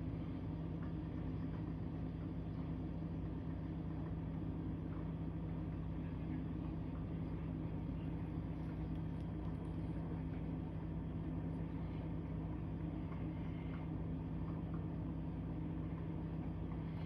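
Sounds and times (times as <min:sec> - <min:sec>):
faint background rumble: 0:00.0 - 0:17.0
low mechanical hum: 0:00.0 - 0:17.0.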